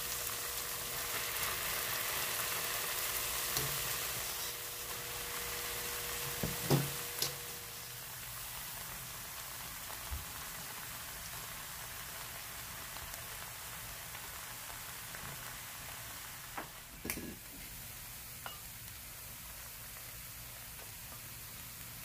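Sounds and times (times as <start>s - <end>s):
soft sizzling in a pan: 0.0s - 22.0s.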